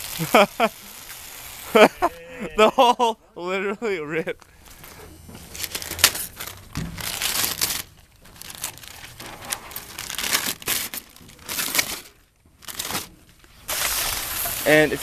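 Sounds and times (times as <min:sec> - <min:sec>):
wrapping paper tearing and crumpling: 0:00.0 - 0:02.7, 0:04.6 - 0:15.0.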